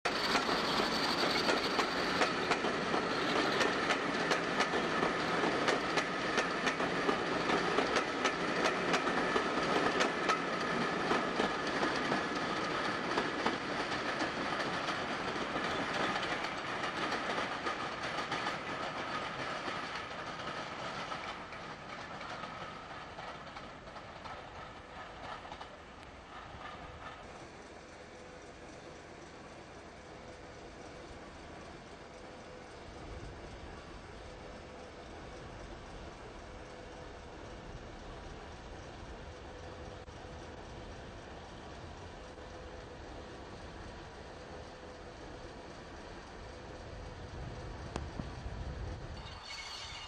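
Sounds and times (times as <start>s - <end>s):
train whine and rumble: 0.0s - 50.0s
train wheels clicking over rail joints: 0.1s - 50.0s.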